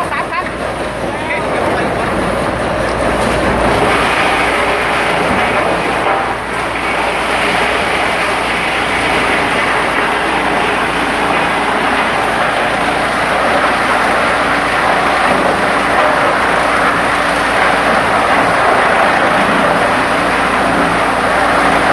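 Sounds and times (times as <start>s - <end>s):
wood chipper running: 0.0s - 21.9s.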